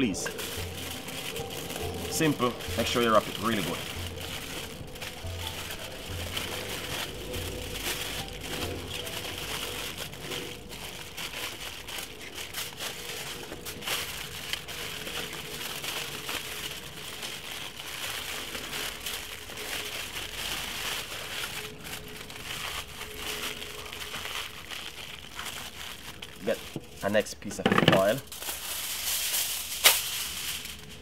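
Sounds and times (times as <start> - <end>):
aluminium foil crinkling: 0.0 - 31.0.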